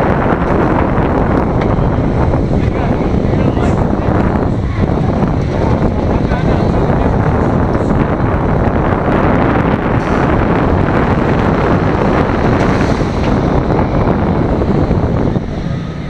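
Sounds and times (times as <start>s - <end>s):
roller coaster wheels rumbling on track: 0.0s - 16.0s
wind buffeting microphone: 0.0s - 16.0s.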